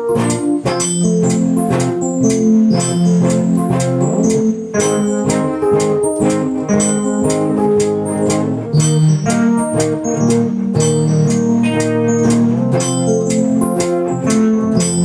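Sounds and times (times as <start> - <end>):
electronic keyboard organ chords: 0.0 - 15.0
steady beat: 0.0 - 15.0.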